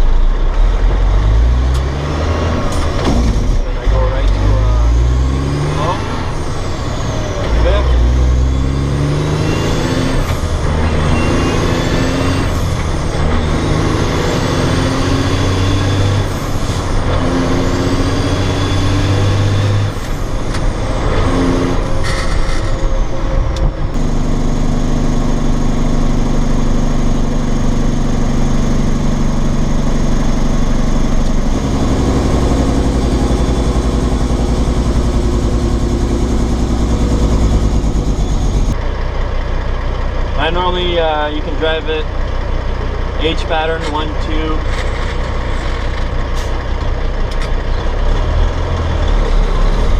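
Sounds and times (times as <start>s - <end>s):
truck diesel engine shifting gears: 0.0s - 49.9s.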